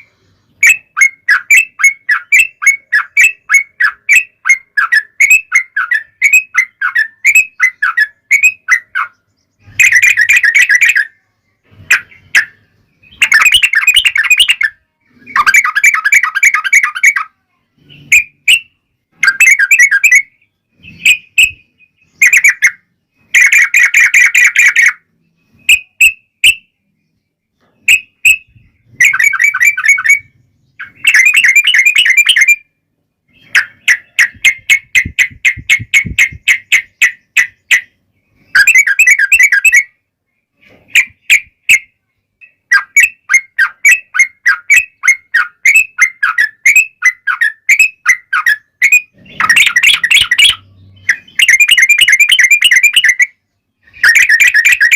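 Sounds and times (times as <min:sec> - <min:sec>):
bulbul singing: 0:00.0 - 0:54.9.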